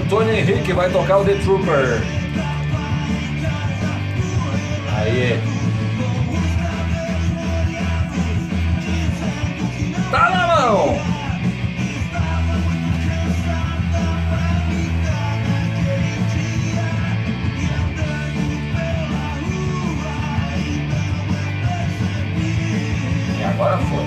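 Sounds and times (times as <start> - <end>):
rock music with guitar and vocals: 0.0 - 24.0.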